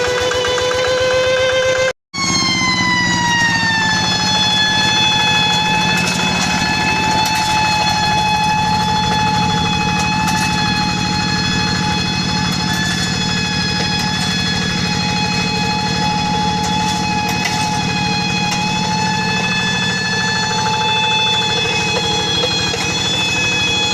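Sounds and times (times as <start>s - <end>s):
high-pitched whine: 0.0s - 23.9s
tractor engine chugging: 2.2s - 23.9s.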